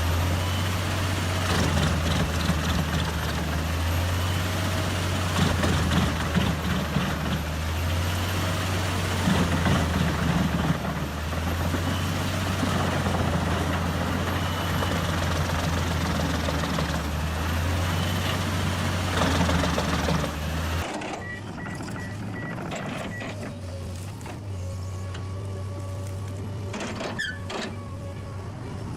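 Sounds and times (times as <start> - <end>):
heavy machinery engine running: 0.0 - 28.9.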